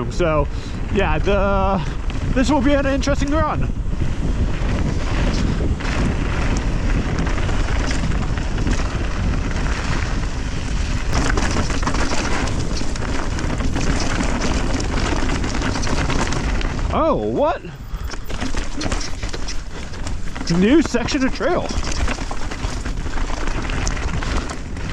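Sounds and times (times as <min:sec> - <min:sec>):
bike knocking and rattling: 0:00.0 - 0:24.9
wind buffeting microphone: 0:00.0 - 0:24.9.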